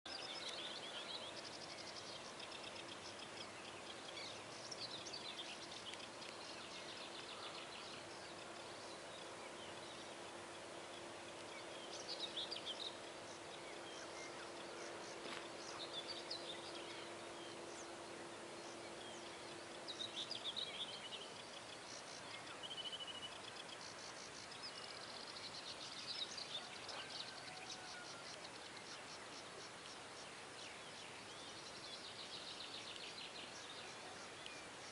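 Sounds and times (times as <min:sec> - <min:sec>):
birds singing: 0:00.1 - 0:34.9
faint steady hiss: 0:00.1 - 0:34.9
low steady hum: 0:00.1 - 0:34.9.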